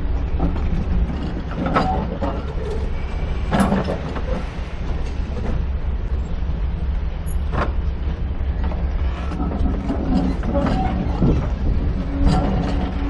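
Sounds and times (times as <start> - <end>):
railway coaches rumbling past: 0.0 - 13.0.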